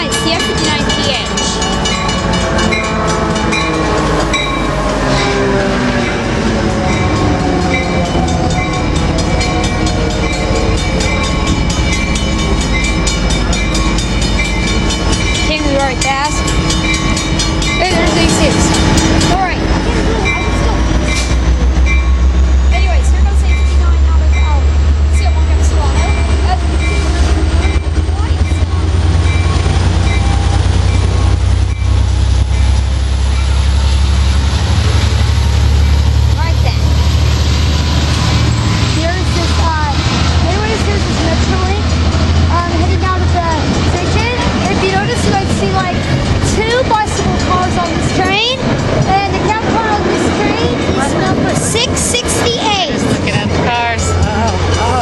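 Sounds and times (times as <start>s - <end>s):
locomotive engine drone: 0.0s - 55.0s
train passing at speed: 0.0s - 55.0s.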